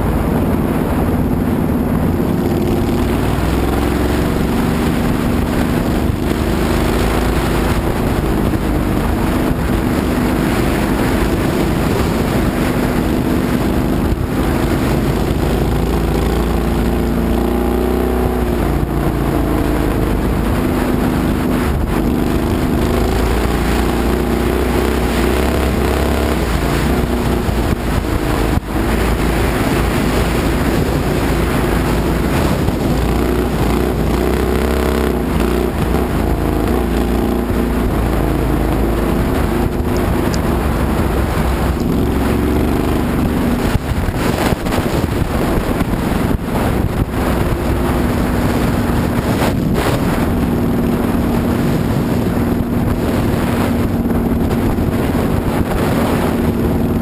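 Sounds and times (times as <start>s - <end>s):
race car engine at speed: 0.0s - 57.0s
wind on microphone: 0.0s - 57.0s.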